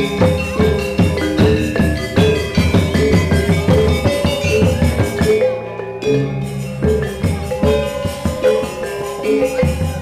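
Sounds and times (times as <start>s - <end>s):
drum strokes: 0.0s - 10.0s
gamelan ensemble playing: 0.0s - 10.0s.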